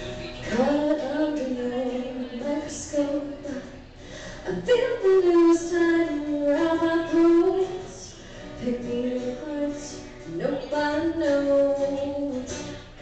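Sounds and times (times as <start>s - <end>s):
guitar accompaniment: 0.0s - 13.0s
woman singing into microphone: 0.1s - 13.0s.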